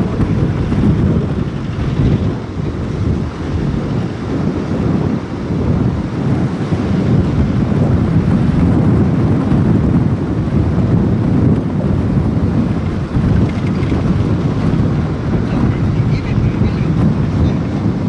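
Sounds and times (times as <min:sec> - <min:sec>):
vehicle road and engine noise: 0:00.0 - 0:18.0
wind buffeting microphone: 0:00.0 - 0:18.0.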